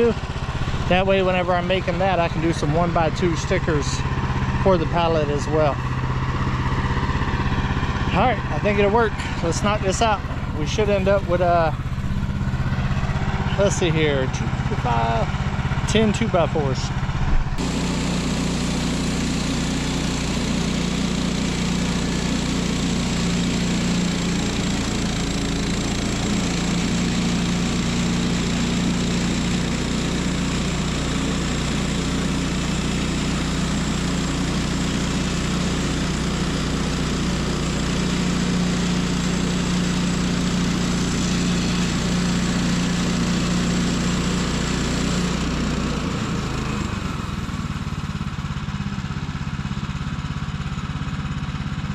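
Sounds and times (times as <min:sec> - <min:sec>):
bandsaw sawmill cutting log: 0:00.0 - 0:51.9.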